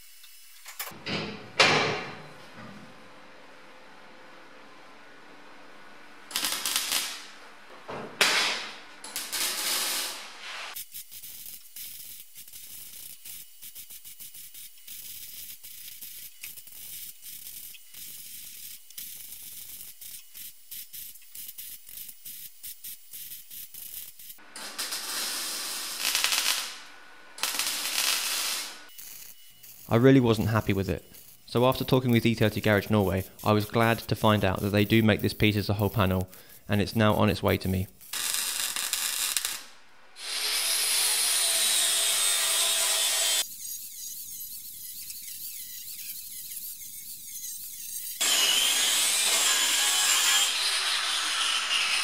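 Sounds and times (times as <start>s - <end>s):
welder crackling hiss: 0.0s - 1.0s, 6.3s - 7.4s, 8.2s - 43.5s, 45.2s - 52.0s.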